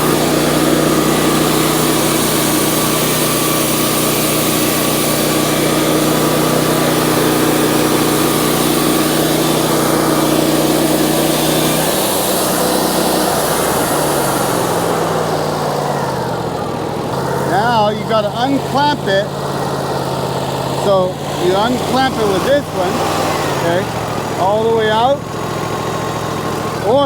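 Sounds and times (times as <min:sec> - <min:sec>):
band saw cutting: 0:00.0 - 0:27.0
sawmill engine running: 0:00.0 - 0:27.0.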